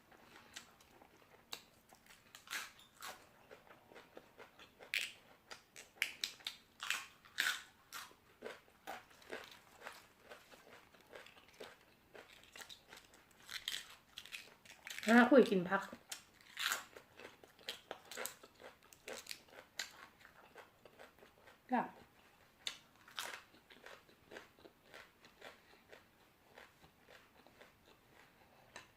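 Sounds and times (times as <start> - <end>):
chewing crisp raw vegetables: 0.1 - 28.9.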